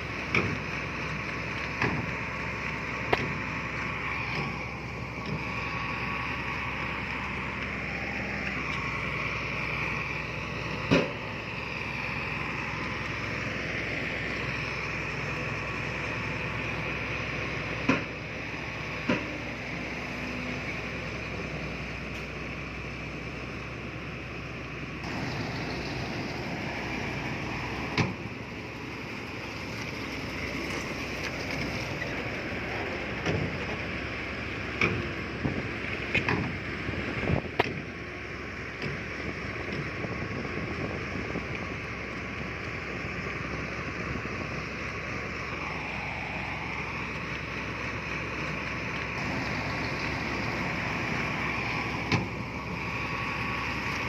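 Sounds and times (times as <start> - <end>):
heavy machinery diesel engine running: 0.0 - 54.0.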